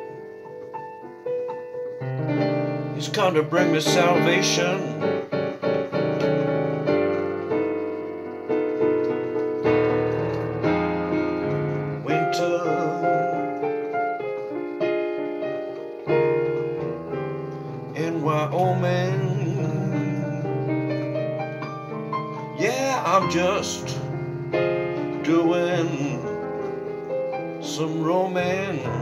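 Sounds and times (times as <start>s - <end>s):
slow piano ballad: 0.0s - 29.0s.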